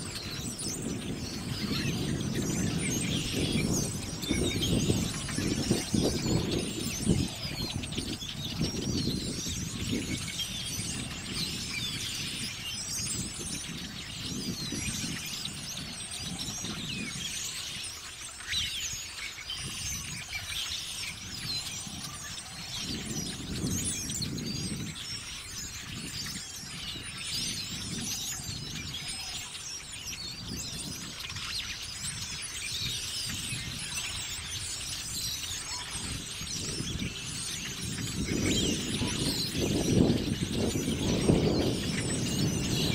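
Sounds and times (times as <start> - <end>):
flock of blackbirds chirping: 0.0 - 42.9
wind buffeting microphone: 0.0 - 42.9.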